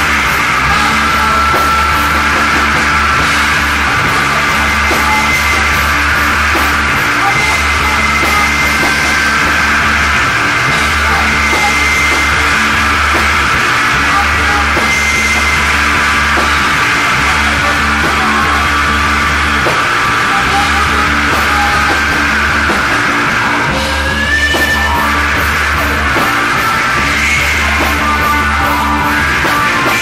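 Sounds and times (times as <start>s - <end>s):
heavy psychedelic rock music: 0.0s - 30.0s.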